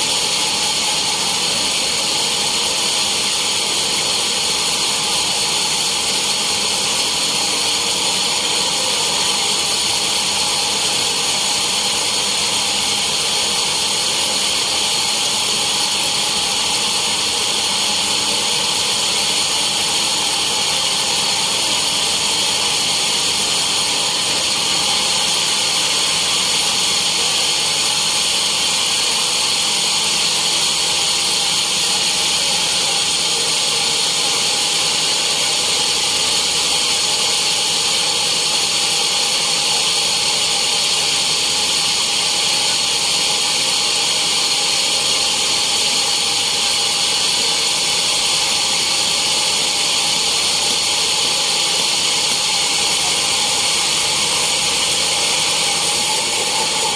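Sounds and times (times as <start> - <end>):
sawmill saw running: 0.0 - 56.9.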